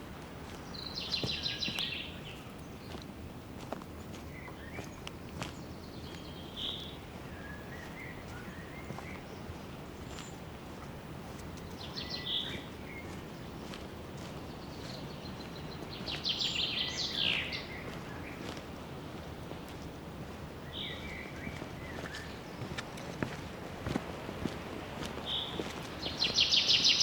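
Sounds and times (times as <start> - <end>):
songbirds singing: 0.0 - 27.0.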